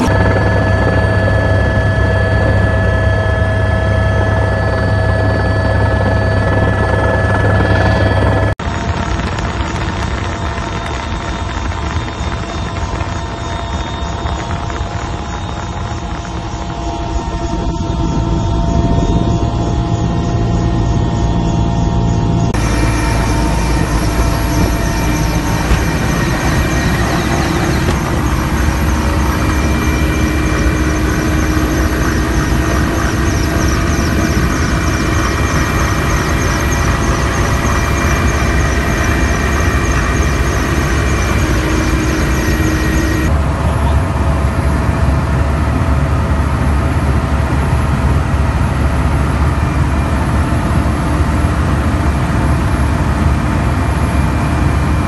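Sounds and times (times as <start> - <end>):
helicopter rotor and engine rumble: 0.0 - 55.0
high turbine whine: 0.0 - 55.0.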